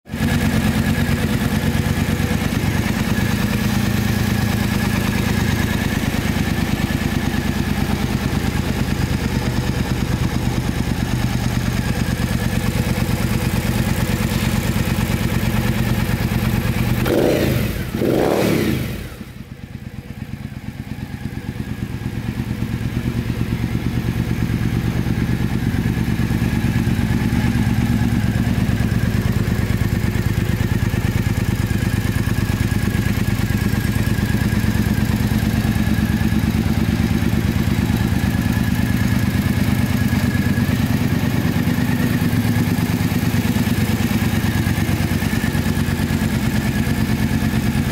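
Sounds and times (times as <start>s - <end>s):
motorcycle engine idling: 0.1s - 47.9s.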